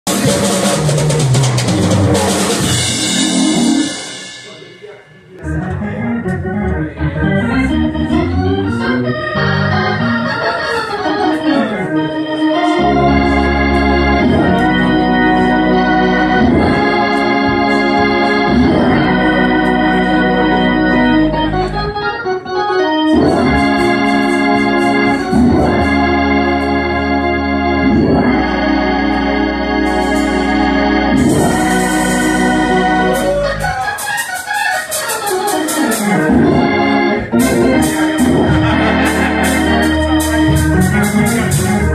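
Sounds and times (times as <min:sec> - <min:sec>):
organ playing chords: 0:00.0 - 0:41.9.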